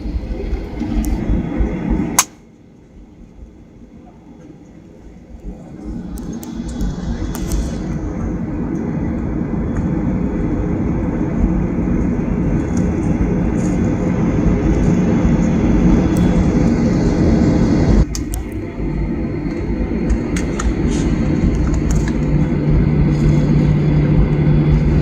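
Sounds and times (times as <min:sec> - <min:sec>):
jet airliner cabin rumble: 0:00.0 - 0:25.0.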